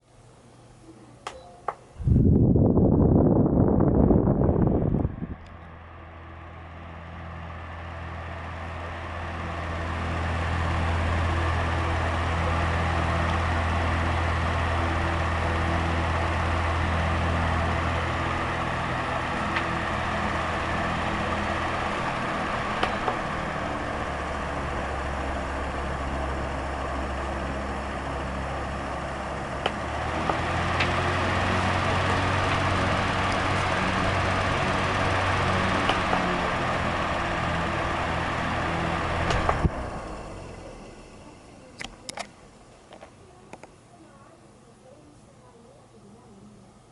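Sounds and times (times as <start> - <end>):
electric fan scraping hum: 0.0 - 46.9.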